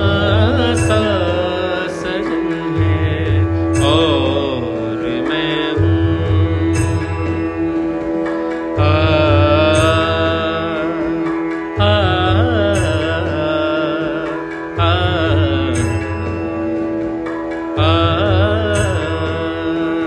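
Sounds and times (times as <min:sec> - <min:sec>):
instrumental drone with bending melody: 0:00.0 - 0:20.0
low beat: 0:00.0 - 0:20.0.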